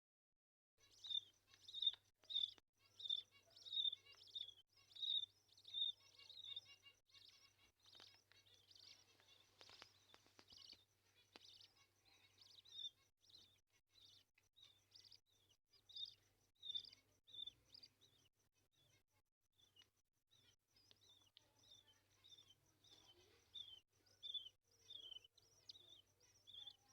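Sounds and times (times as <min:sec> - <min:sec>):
baby bird chirping: 0:00.8 - 0:18.2, 0:20.4 - 0:26.9.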